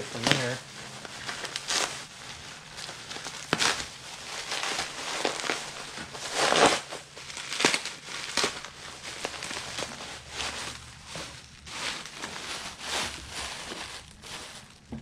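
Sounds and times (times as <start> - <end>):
plastic bag and bubble wrap crinkling: 0.0 - 15.0.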